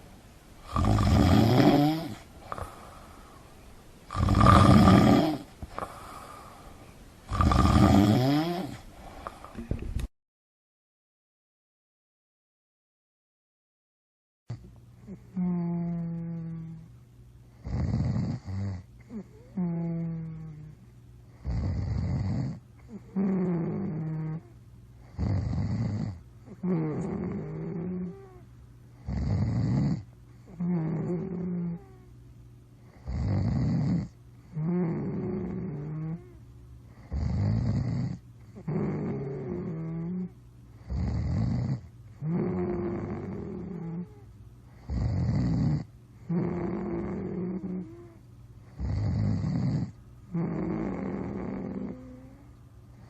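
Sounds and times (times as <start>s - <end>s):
person snoring: 0.6s - 3.4s, 4.1s - 9.7s, 14.5s - 16.9s, 17.6s - 20.7s, 21.4s - 28.4s, 29.0s - 32.1s, 32.9s - 36.4s, 37.0s - 52.5s.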